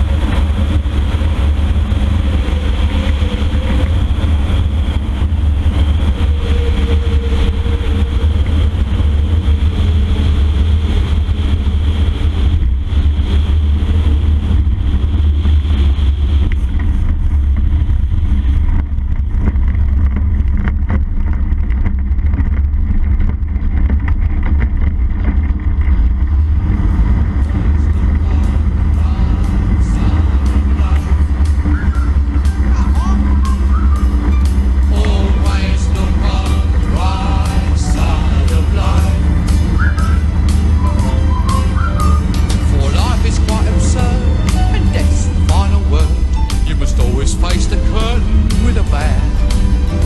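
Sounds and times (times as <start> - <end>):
microlight engine and propeller: 0.0 - 50.0
wind rumble on camera: 0.0 - 50.0.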